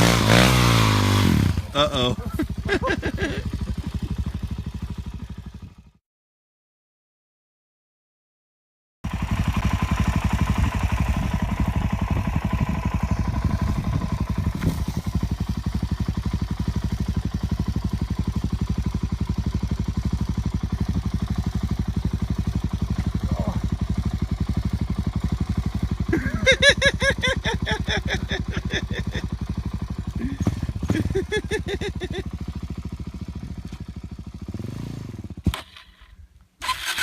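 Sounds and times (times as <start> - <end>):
motorcycle engine idling: 0.1 - 6.0, 9.0 - 37.0.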